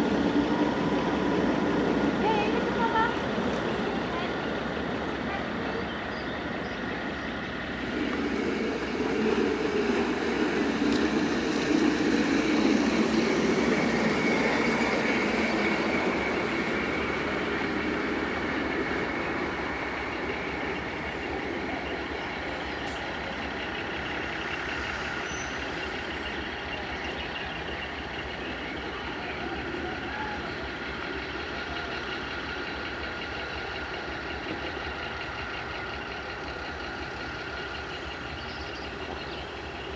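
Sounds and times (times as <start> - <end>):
diesel train running: 0.0 - 39.9.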